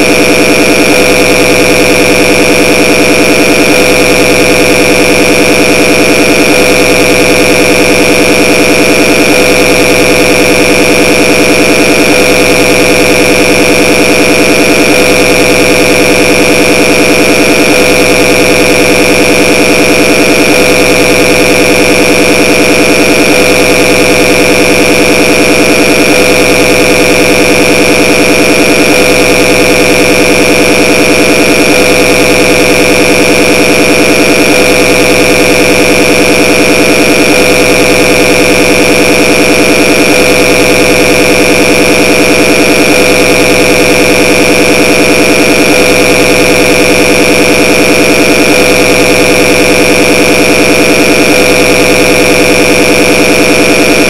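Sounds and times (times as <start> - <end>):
loud harsh layered drone: 0.0 - 54.0.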